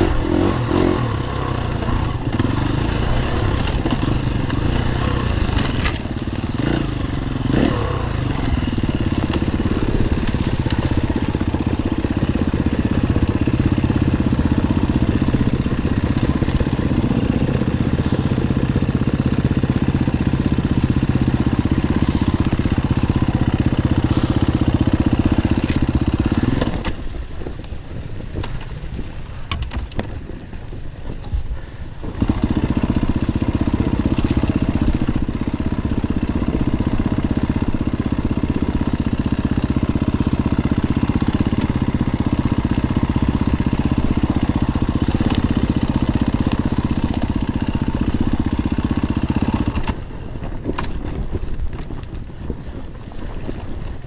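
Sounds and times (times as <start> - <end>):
dirt bike engine revving: 0.0 - 27.6, 31.6 - 50.1.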